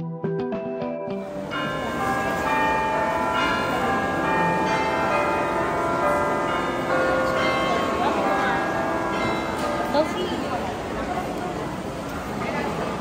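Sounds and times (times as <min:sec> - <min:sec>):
church bells ringing: 0:01.2 - 0:13.0.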